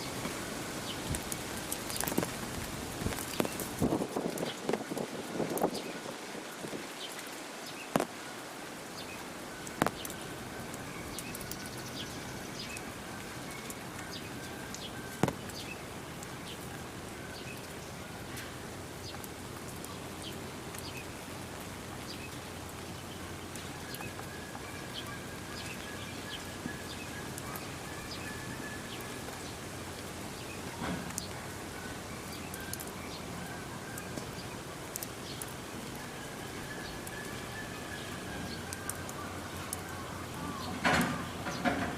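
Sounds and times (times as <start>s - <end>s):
outdoor background noise: 0.0s - 41.9s.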